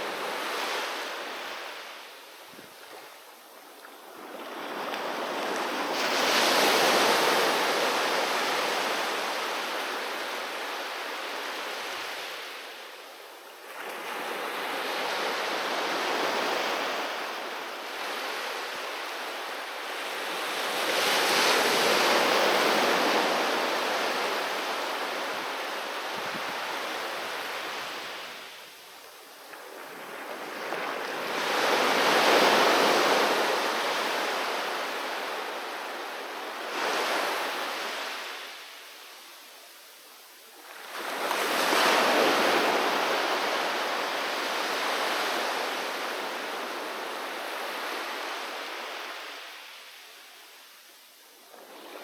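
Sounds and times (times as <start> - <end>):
sea waves breaking on beach: 4.0 - 13.0, 13.6 - 28.6, 29.4 - 38.7, 40.6 - 49.9.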